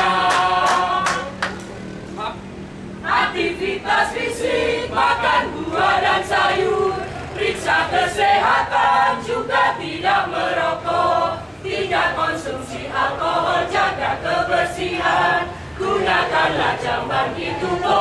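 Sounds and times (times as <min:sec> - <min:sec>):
group of voices singing: 0:00.0 - 0:01.6, 0:03.0 - 0:18.0.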